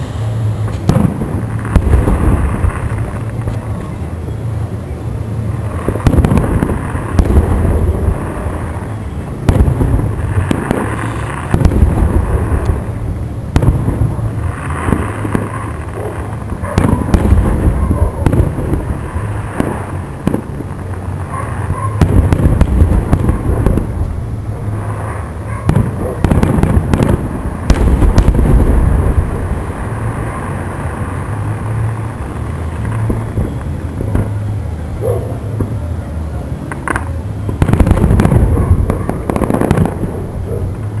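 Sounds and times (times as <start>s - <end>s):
continuous low rumble: 0.0s - 41.0s.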